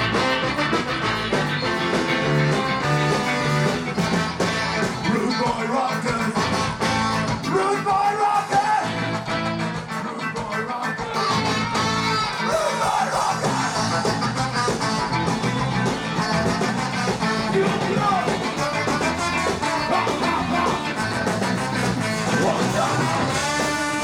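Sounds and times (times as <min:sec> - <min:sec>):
electric guitar: 0:00.0 - 0:24.0
live ska band playing: 0:00.0 - 0:24.0.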